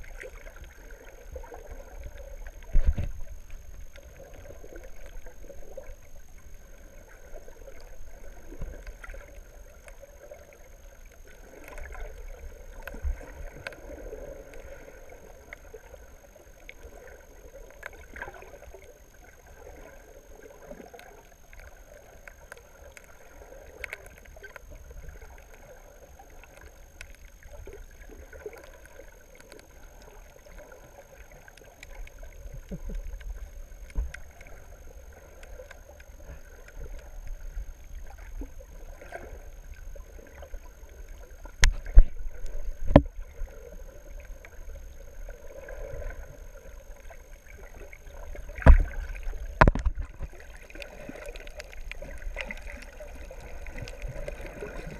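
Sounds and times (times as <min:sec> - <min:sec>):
low rumble of water movement: 0:00.0 - 0:54.9
small clicks underwater: 0:00.0 - 0:54.9.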